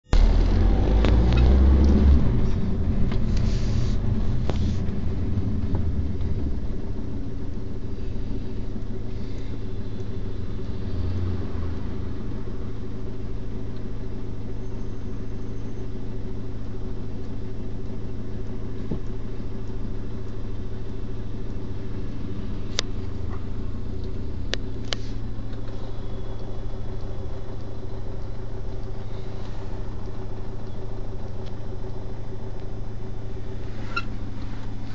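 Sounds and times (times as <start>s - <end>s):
car engine hum inside cabin: 0.0s - 34.9s.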